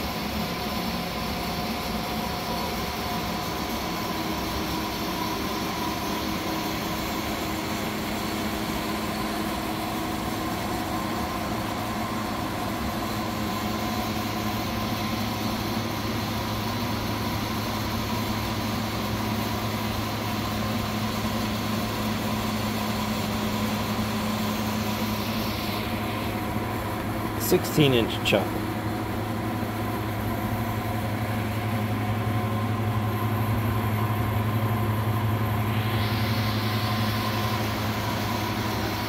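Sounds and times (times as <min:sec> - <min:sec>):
lathe mechanical hum: 0:00.0 - 0:39.0.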